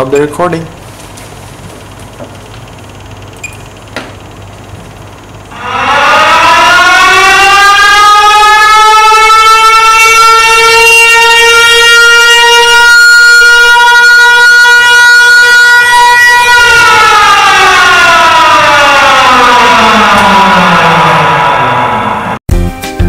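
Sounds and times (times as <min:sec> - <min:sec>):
siren-like wailing tone: 0:02.7 - 0:22.4.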